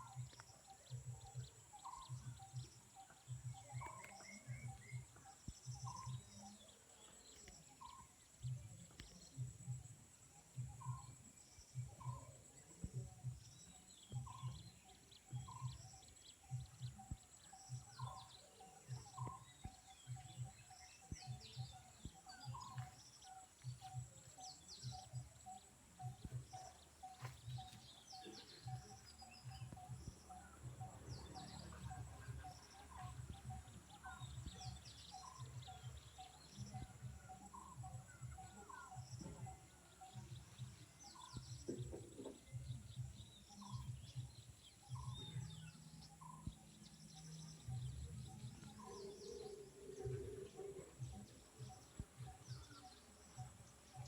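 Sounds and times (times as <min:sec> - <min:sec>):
birds chirping and calling: 0:00.0 - 0:54.0
faint low pulsing: 0:00.0 - 0:54.0.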